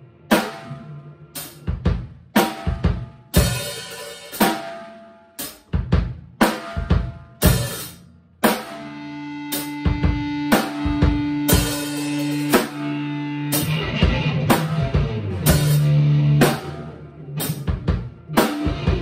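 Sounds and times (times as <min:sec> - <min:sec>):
rock drum kit groove: 0:00.0 - 0:19.0.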